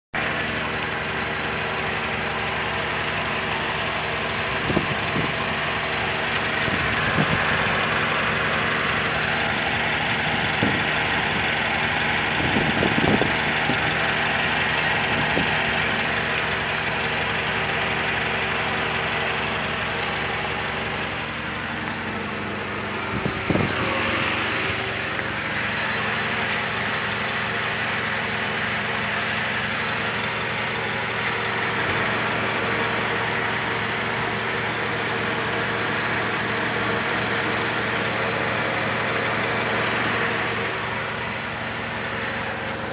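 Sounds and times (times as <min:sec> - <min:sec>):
car engine idling: 0:00.1 - 0:42.9.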